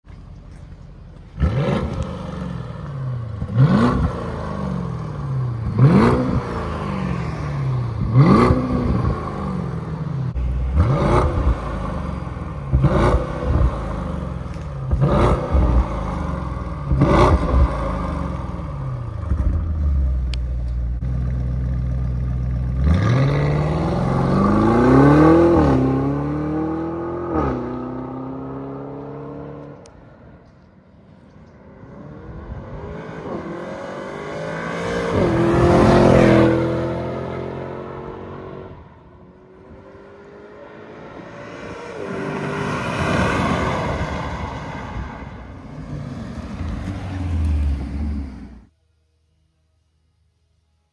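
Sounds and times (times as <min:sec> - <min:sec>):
car accelerating and shifting: 0:00.1 - 0:48.7
car engine revving: 0:01.2 - 0:29.8, 0:31.8 - 0:48.7.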